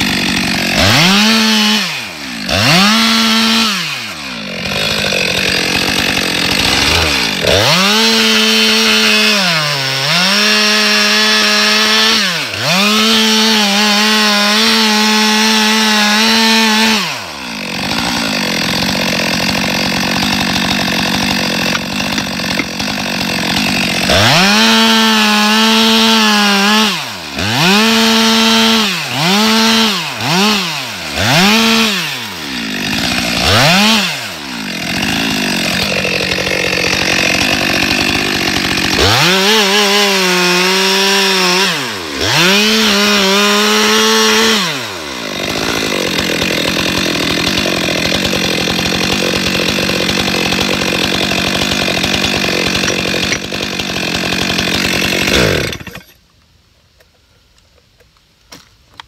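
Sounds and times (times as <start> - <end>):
chainsaw cutting log: 0.0 - 56.2.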